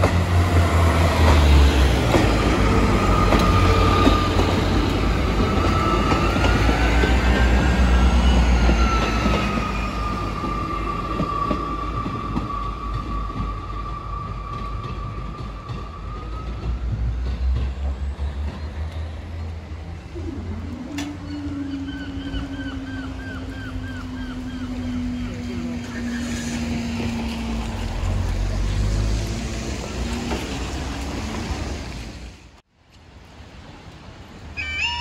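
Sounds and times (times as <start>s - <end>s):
diesel train rumble: 0.0s - 32.6s.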